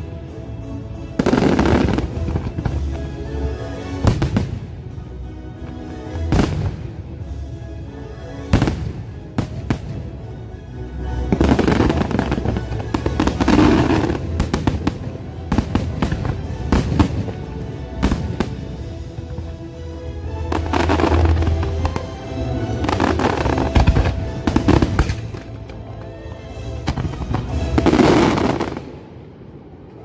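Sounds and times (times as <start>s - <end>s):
music playing: 0.0s - 30.0s
fireworks bangs and crackling: 1.1s - 5.0s, 5.6s - 7.4s, 8.5s - 10.2s, 11.2s - 29.1s.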